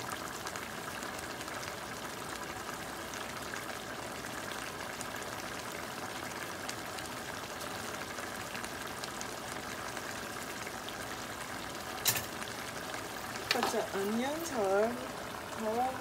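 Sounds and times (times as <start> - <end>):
sauce bubbling in a pan: 0.0 - 16.0.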